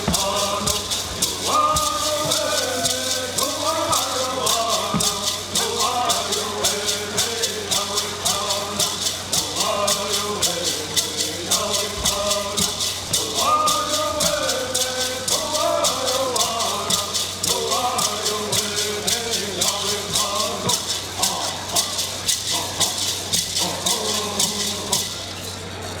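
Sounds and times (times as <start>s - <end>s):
people chanting a melody: 0.0s - 25.8s
hand rattles shaken: 0.0s - 26.0s.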